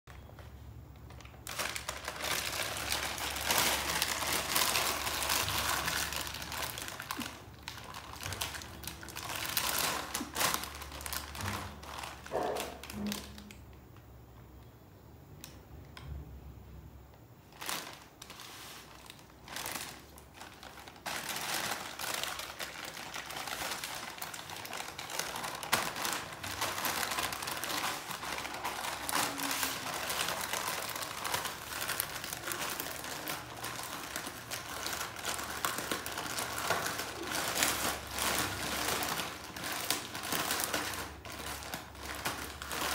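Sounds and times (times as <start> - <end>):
plastic packet crinkling: 0.2 - 14.1, 17.4 - 42.9.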